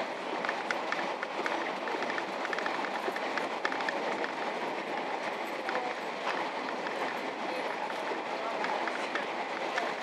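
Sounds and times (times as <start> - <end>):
rumble of wheels on rail: 0.0 - 10.0.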